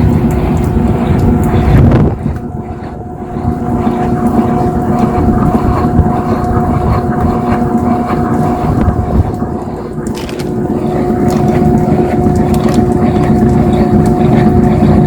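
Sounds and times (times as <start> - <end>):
washing machine motor whine: 0.0 - 15.0.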